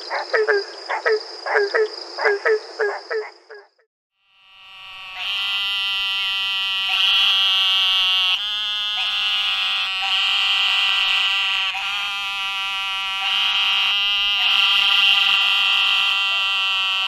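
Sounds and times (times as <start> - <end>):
treefrog barking calls: 0.0 - 3.8, 4.7 - 17.0
toads nasal buzzing calls: 0.3 - 17.0.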